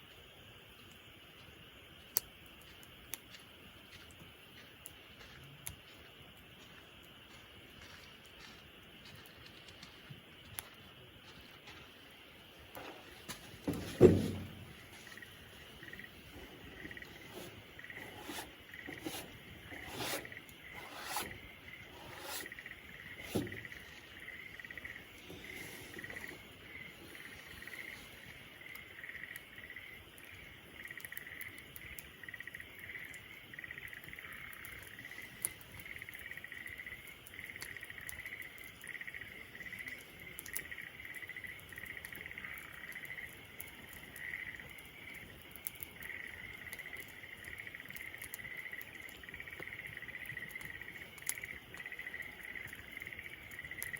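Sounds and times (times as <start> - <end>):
campfire crackling and popping: 0.0 - 53.9
insects chirping: 0.0 - 53.9.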